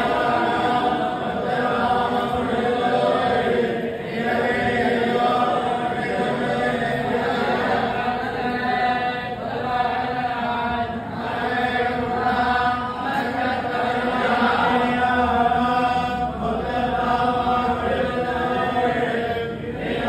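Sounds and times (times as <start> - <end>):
men chanting in unison: 0.0 - 20.0.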